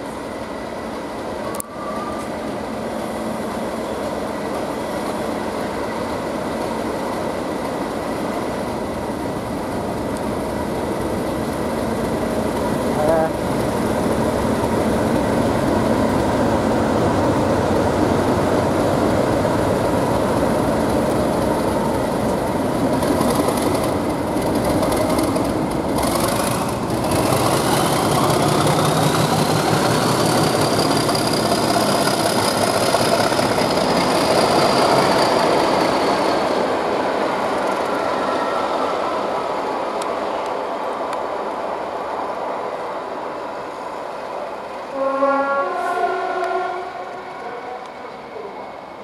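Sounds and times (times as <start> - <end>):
diesel locomotive engine: 0.0 - 49.0.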